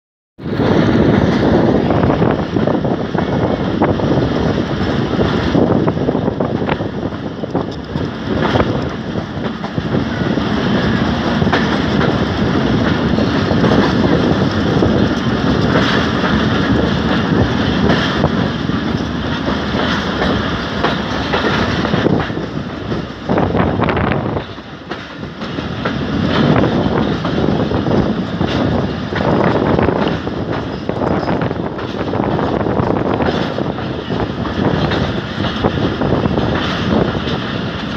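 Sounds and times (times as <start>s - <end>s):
train wheels clattering over rails: 0.4s - 37.9s.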